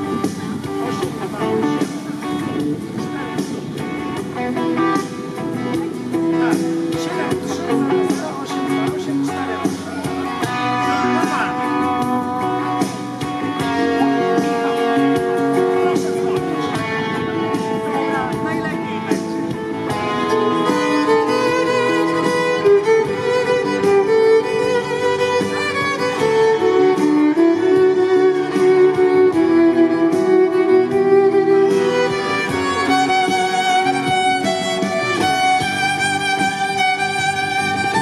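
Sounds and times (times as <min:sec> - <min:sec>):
amplified violin melody: 0:00.0 - 0:38.0
backing track beat: 0:00.0 - 0:38.0.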